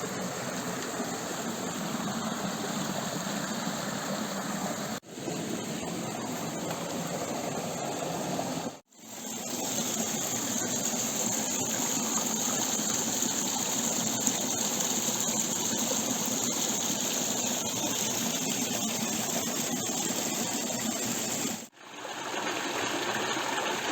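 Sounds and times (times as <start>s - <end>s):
creek water flowing: 0.0s - 23.9s.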